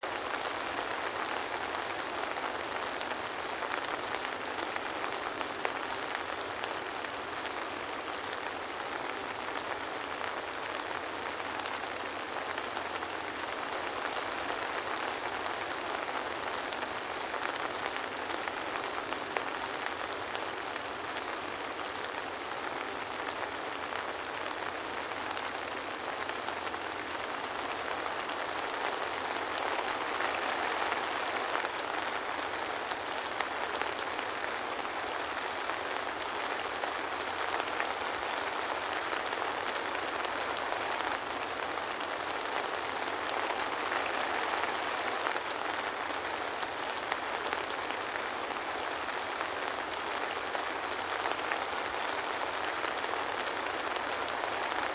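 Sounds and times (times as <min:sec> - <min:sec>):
soft rain hissing: 0:00.0 - 0:54.9.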